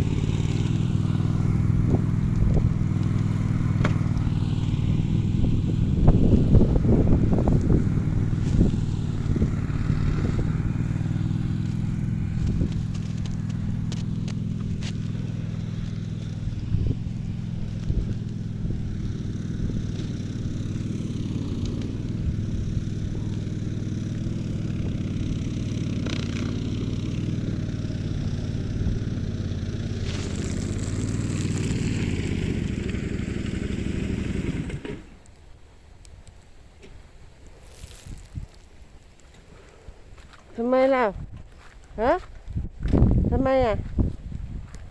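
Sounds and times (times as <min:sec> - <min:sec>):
engine running: 0:00.0 - 0:44.9.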